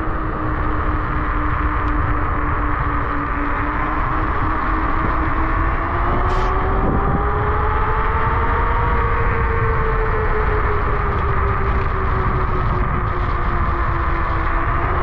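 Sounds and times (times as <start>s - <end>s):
electric scooter motor whining: 0.0s - 15.0s
low rumble: 0.0s - 15.0s.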